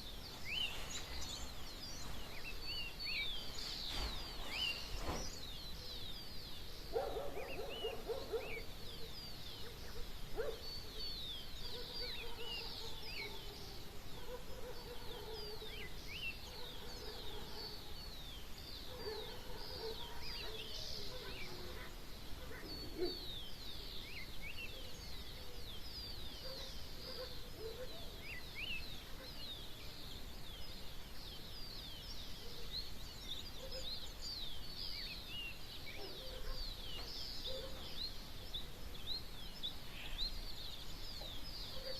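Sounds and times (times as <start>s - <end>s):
lower steady bird calls: 0.0s - 41.9s.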